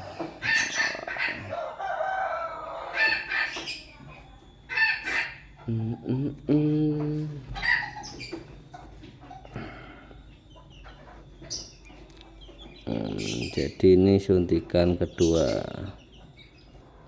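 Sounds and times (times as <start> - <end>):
chickens crowing and clucking: 0.0 - 17.0.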